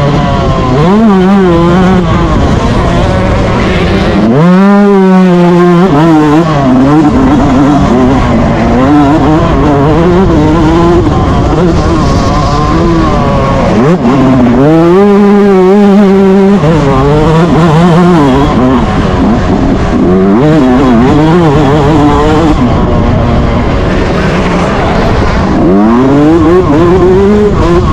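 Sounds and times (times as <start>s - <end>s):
motocross bike revving: 0.0s - 27.9s.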